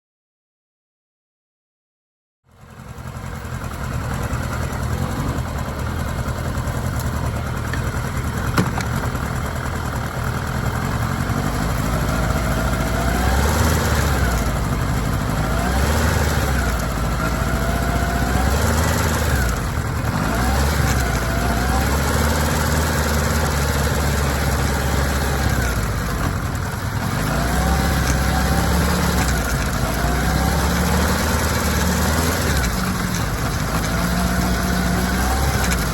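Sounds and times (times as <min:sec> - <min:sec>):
motorcycle engine revving: 0:02.5 - 0:35.9.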